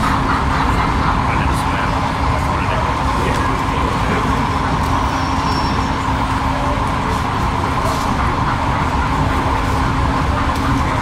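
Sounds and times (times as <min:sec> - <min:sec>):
model diesel locomotive running: 0:00.0 - 0:11.0.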